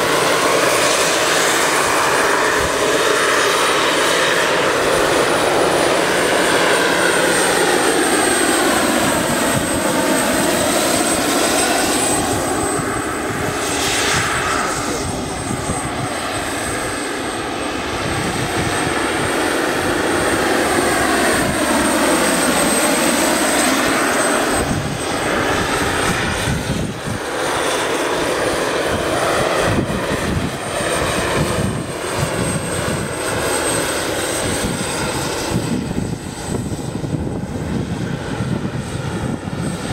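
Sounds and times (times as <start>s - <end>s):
helicopter rotor drone: 0.0s - 39.9s
high turbine whine: 0.0s - 39.9s.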